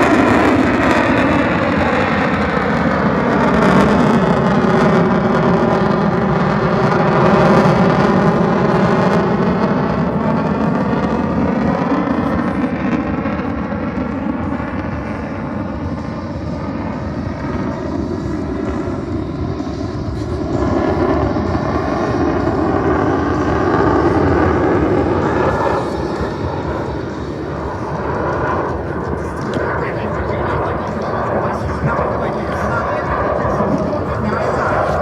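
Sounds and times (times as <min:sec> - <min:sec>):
jet engines roaring in flight: 0:00.0 - 0:35.0.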